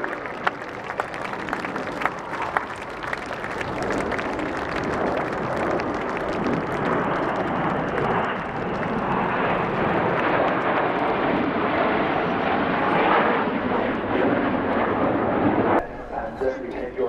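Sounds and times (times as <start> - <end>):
jets flying past: 0.0 - 17.0.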